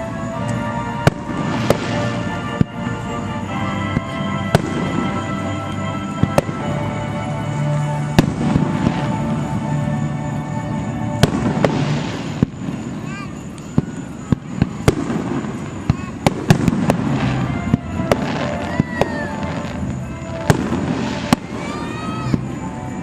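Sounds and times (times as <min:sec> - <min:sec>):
firework shells bursting: 0:00.0 - 0:07.0, 0:11.1 - 0:23.0
music playing: 0:00.0 - 0:23.0.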